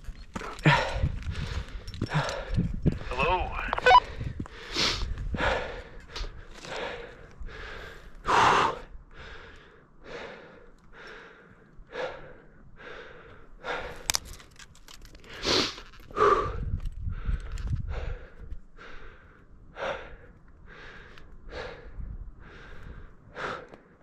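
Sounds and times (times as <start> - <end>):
person breathing heavily: 0.4 - 14.4, 15.2 - 24.0.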